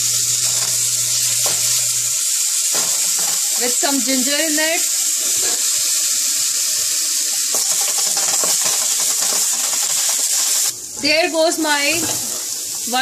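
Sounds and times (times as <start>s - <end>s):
garlic frying in hot oil: 0.0s - 13.0s.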